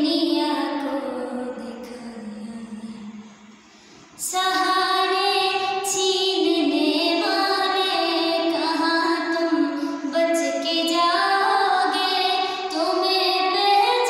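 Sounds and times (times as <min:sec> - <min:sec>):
girl singing: 0:00.0 - 0:03.2, 0:04.2 - 0:14.0.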